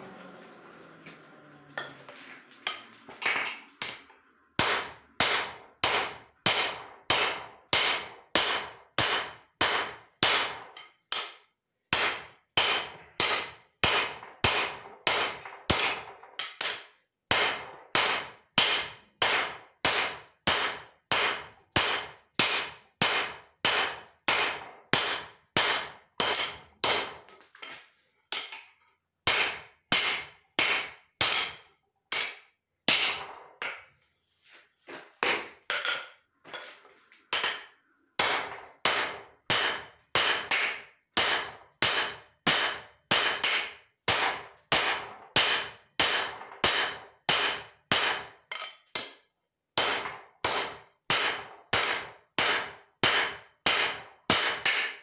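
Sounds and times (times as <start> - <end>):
hammer striking steel on anvil: 2.7 - 27.3, 29.3 - 33.8, 37.4 - 49.2, 49.8 - 55.0.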